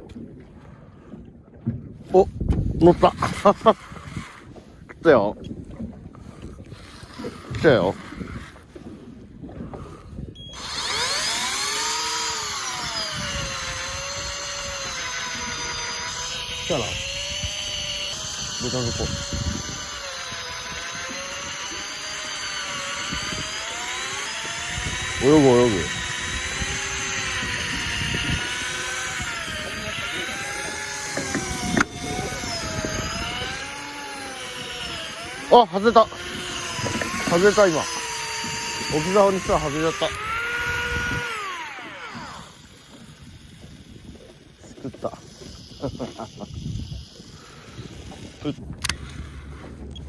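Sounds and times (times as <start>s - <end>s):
electric fishing reel motor whine: 2.8s - 4.6s, 6.3s - 9.0s, 9.8s - 50.0s.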